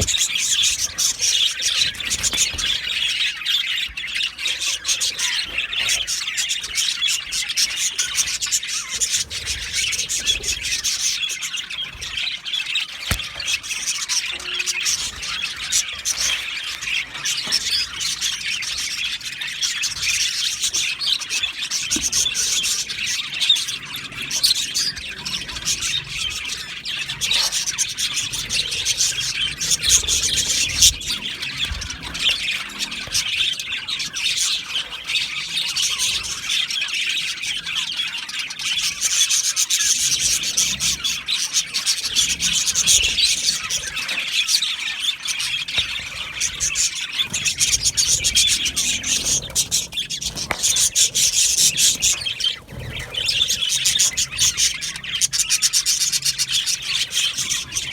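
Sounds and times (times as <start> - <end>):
budgerigars chattering and chirping: 0.0 - 57.9.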